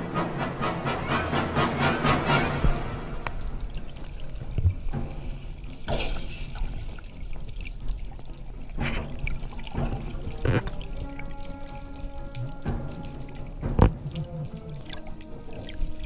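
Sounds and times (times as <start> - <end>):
underwater sloshing and bubbling: 0.0 - 16.0
water rushing: 0.0 - 16.0.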